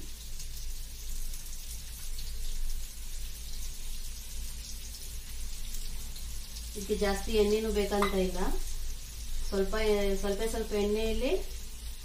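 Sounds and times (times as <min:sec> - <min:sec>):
oil sizzling on a hot pan: 0:00.0 - 0:12.0.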